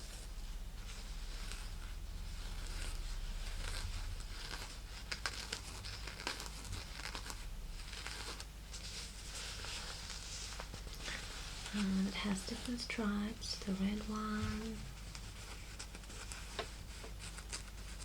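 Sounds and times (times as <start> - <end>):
fingers rustling silk purse: 0.0 - 18.0.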